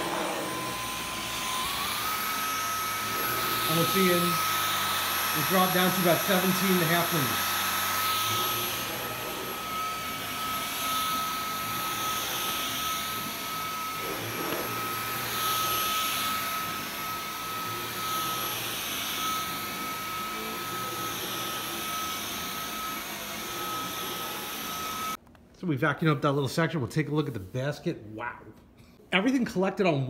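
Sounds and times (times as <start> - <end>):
vacuum brush rushing hiss on rug: 0.0 - 25.2
vacuum cleaner motor whine: 0.0 - 25.2.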